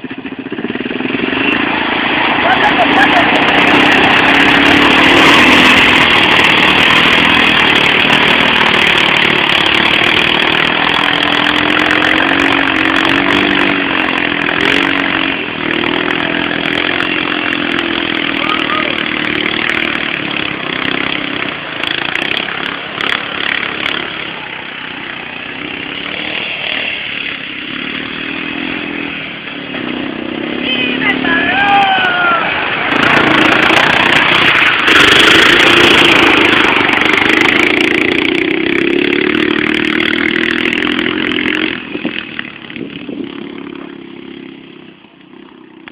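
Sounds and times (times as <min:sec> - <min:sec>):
small engine revving high: 0:00.5 - 0:45.0.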